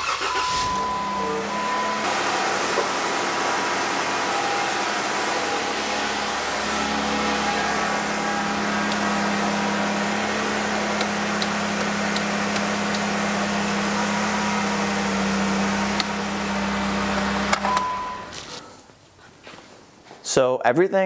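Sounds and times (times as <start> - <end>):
car engine idling: 0.0 - 18.6.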